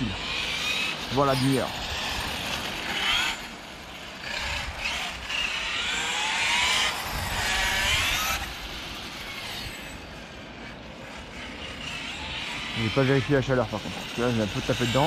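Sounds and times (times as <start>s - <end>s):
radio-controlled car motor whining: 0.0s - 15.0s.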